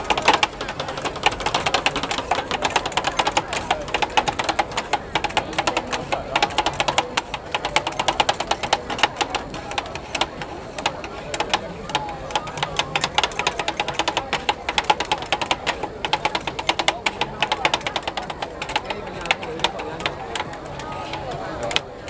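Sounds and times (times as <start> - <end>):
faint background chatter: 0.0 - 22.0
rapid sharp clicking and clacking: 0.0 - 22.0.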